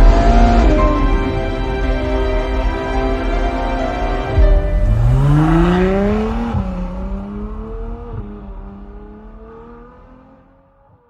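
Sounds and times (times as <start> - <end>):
sports car engine accelerating: 0.0 - 11.0.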